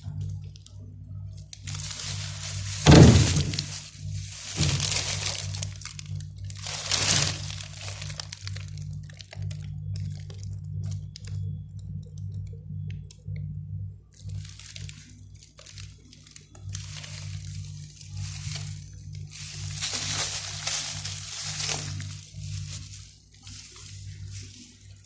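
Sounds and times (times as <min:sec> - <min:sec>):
plastic packaging crinkling: 0:00.0 - 0:13.2, 0:14.1 - 0:25.0
steady low hum: 0:00.0 - 0:25.0.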